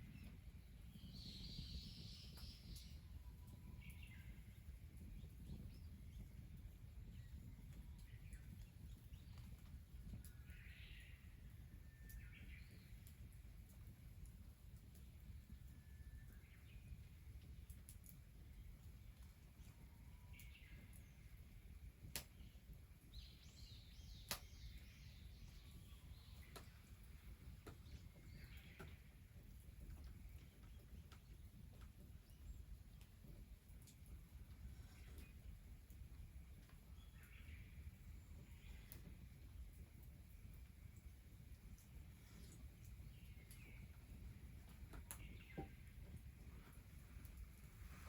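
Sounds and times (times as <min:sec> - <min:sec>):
faint distant bird chirps: 0:00.0 - 0:13.4, 0:18.5 - 0:35.9, 0:36.6 - 0:48.0.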